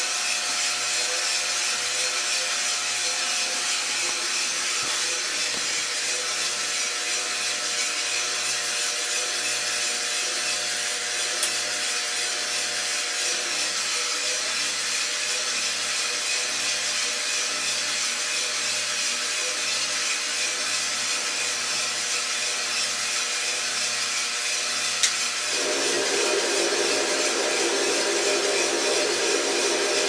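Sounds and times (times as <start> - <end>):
coffee roaster rushing hiss: 0.0 - 30.0.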